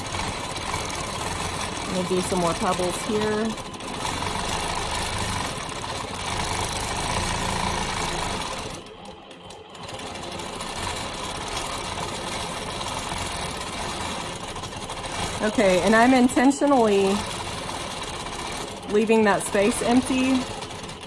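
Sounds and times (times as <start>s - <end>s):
quilting machine stitching: 0.0s - 21.0s.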